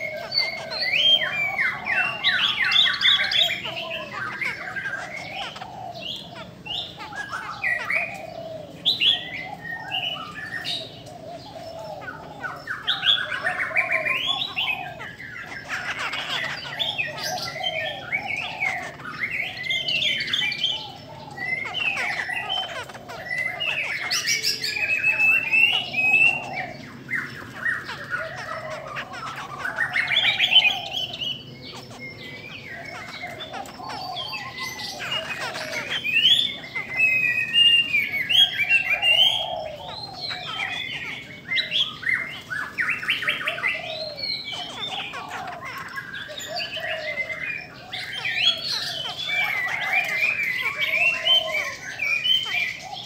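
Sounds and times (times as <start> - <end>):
birds singing and chattering: 0.0 - 53.0.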